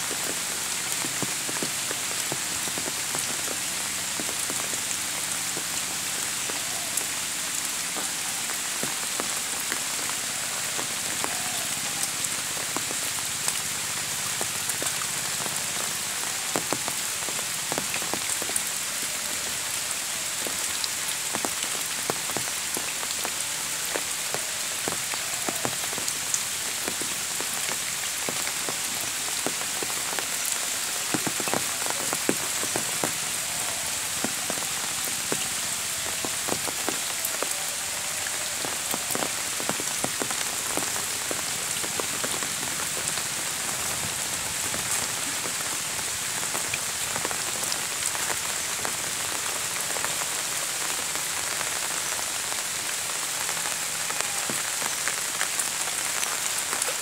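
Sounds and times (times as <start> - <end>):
rain falling on water and leaves: 0.0 - 57.0.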